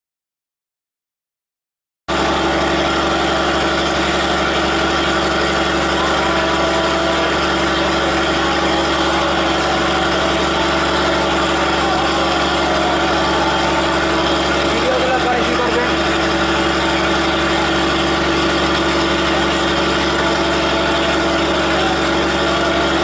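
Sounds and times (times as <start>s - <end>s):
locomotive engine idling: 2.1s - 23.0s.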